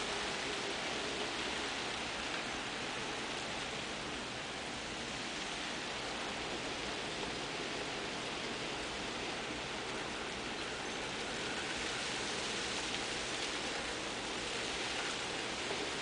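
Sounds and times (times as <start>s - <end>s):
icy branches hissing in wind: 0.0s - 16.0s.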